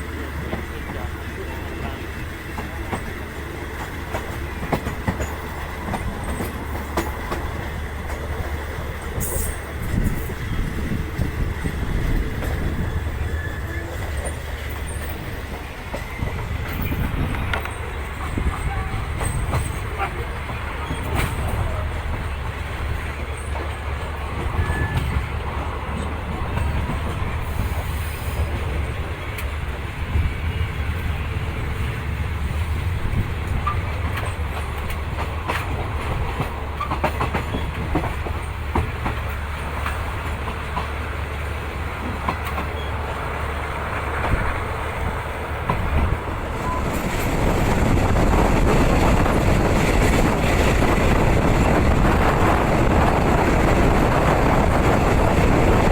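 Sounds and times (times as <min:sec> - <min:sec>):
train rumble inside coach: 0:00.0 - 0:55.9
train wheel clicks on rails: 0:00.2 - 0:30.3, 0:31.8 - 0:55.9.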